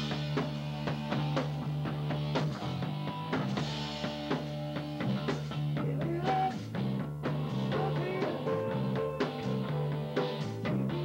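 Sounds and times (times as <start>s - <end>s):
bass line: 0.0s - 11.0s
drum kit with cymbals: 0.0s - 11.0s
electric guitar: 0.0s - 11.0s.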